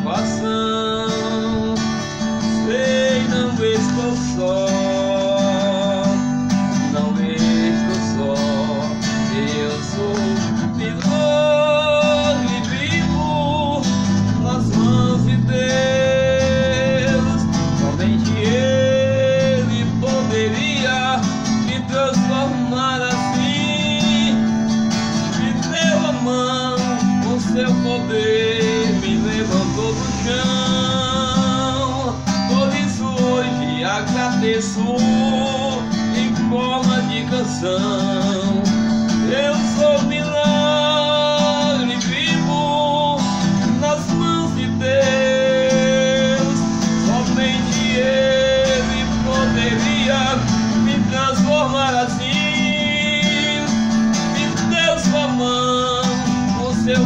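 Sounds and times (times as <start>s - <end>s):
acoustic guitar chords: 0.0s - 57.0s
man singing: 0.0s - 57.0s.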